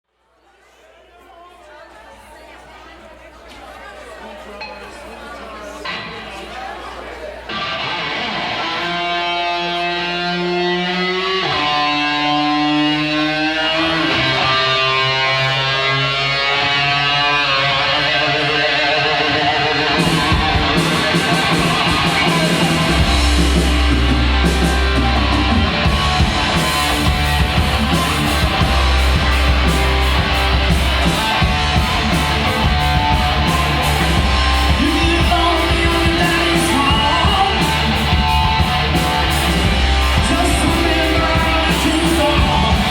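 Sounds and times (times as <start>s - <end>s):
drums: 5.8s - 42.9s
rock band playing: 7.4s - 42.9s
slide electric guitar: 7.5s - 42.9s
heavy bass: 7.6s - 42.9s.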